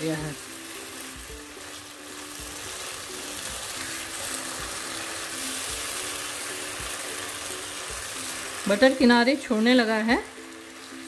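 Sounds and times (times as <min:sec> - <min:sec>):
greens sizzling in butter: 0:00.0 - 0:11.0.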